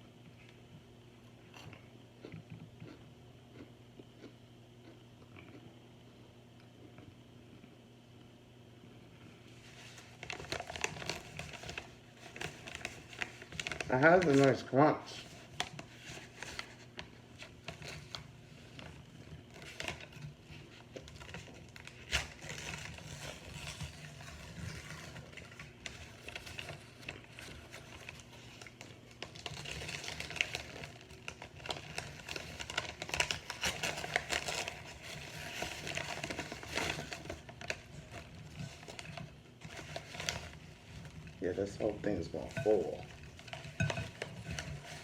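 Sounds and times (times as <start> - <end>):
crunching and chewing: 0.3 - 7.8, 15.2 - 45.0.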